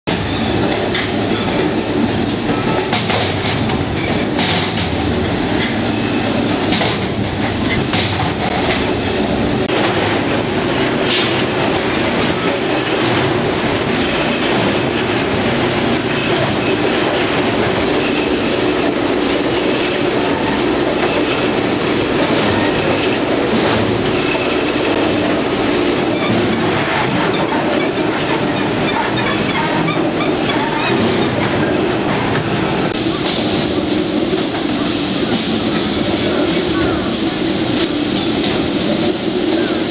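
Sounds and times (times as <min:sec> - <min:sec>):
machine clatter of metal rollers: 0:00.1 - 0:39.9.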